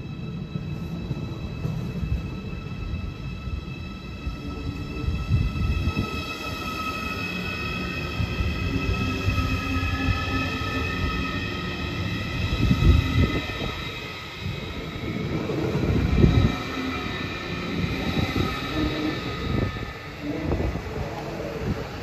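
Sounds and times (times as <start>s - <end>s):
electric train whine: 0.0s - 22.0s
train wheels rumbling on track: 0.0s - 22.0s.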